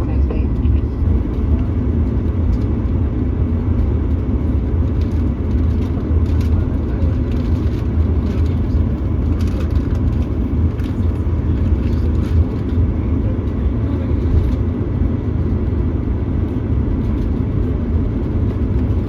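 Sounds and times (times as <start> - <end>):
vehicle rumble from inside cabin: 0.0 - 19.0.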